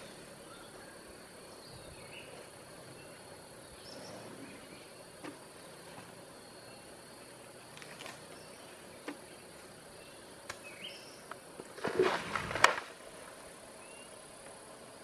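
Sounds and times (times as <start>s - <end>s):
forest insects humming: 0.0s - 15.0s.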